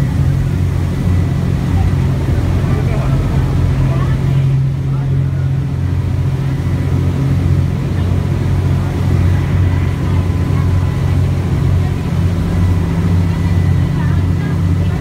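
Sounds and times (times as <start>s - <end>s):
boat engine drone: 0.0s - 15.0s
wake rushing: 0.0s - 15.0s.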